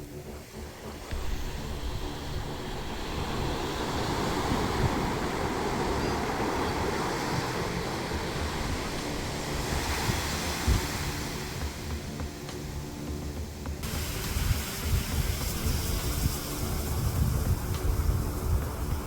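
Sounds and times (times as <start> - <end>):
wind buffeting microphone: 0.8 - 12.2, 13.9 - 19.0
sea surf washing onto beach: 1.1 - 12.9, 13.8 - 19.0.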